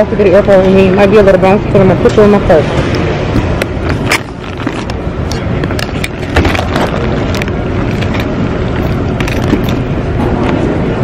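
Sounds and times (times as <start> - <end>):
muffled rubbing rumble: 0.0 - 11.0.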